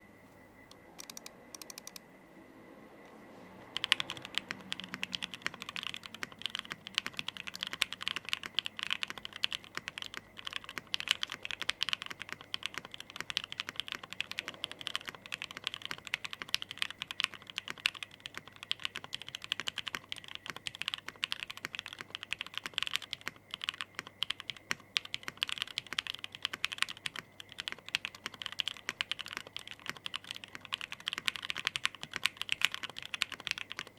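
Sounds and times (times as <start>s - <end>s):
mechanical keyboard typing: 1.0s - 2.0s, 3.7s - 33.9s.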